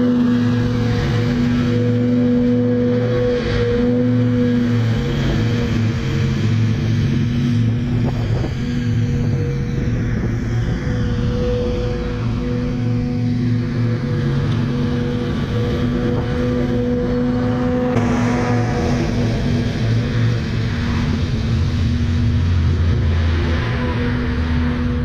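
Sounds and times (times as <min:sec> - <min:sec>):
engine droning hum: 0:00.0 - 0:25.0.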